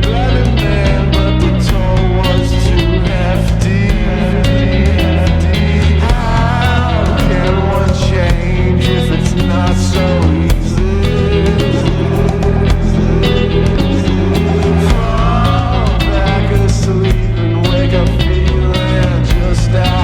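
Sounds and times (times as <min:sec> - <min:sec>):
drums: 0:00.0 - 0:20.0
guitar: 0:00.0 - 0:20.0
sustained bass notes: 0:00.0 - 0:20.0.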